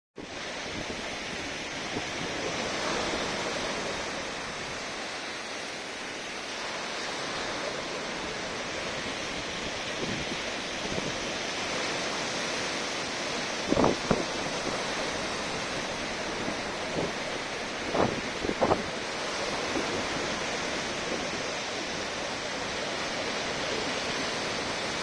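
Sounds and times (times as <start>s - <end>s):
sea surf breaking on shore: 0.2s - 25.0s.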